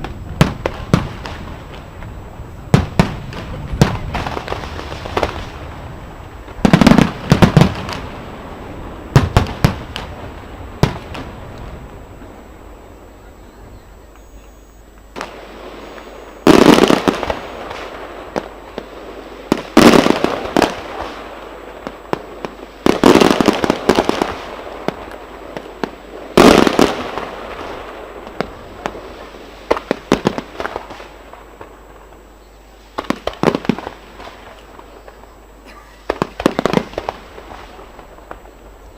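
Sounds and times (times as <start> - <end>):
fireworks booming: 0.0 - 38.9
fireworks crackling: 0.0 - 38.9.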